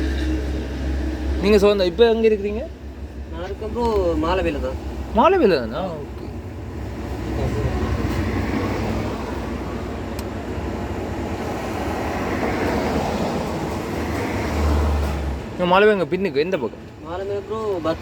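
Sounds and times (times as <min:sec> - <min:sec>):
vehicle interior rumble: 0:00.0 - 0:18.0.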